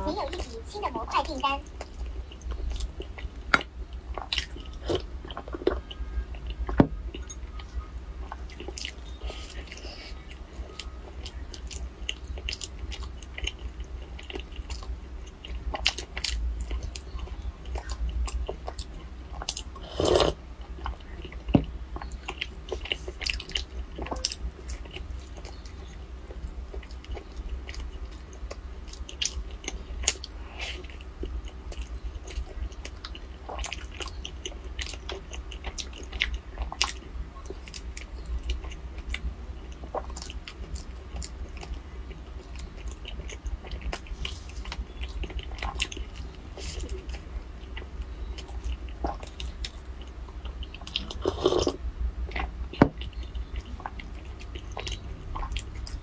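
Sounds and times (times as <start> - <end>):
person chewing crunchy food: 1.6 - 56.0.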